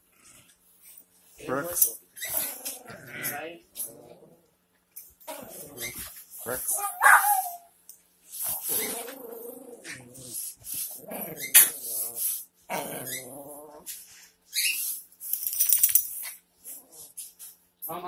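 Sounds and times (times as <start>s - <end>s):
dogs growling and whining: 1.6s - 15.0s, 16.1s - 17.4s.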